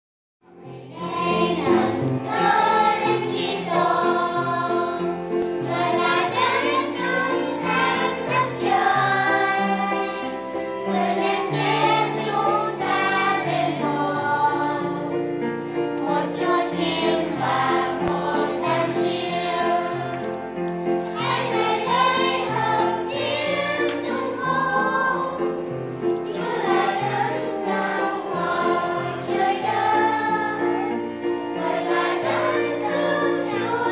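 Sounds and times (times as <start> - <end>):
children's choir singing in unison: 0.4 - 33.9.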